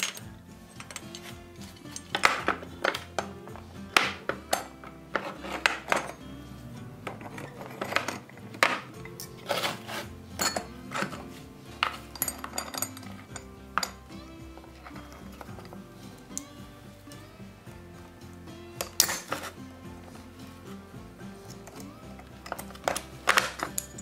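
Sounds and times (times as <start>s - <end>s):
metal chain links clinking: 0.0s - 3.7s, 4.4s - 6.4s, 7.0s - 16.5s, 18.7s - 24.0s
background music: 0.0s - 24.0s.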